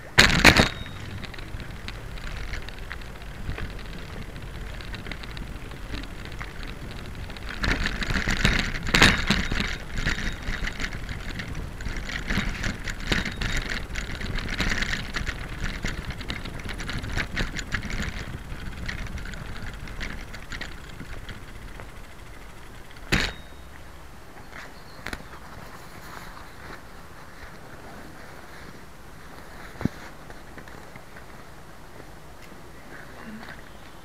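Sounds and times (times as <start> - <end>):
bicycle rattling over brick paving: 0.0 - 32.3
bicycle rolling with low rumble: 0.0 - 34.0.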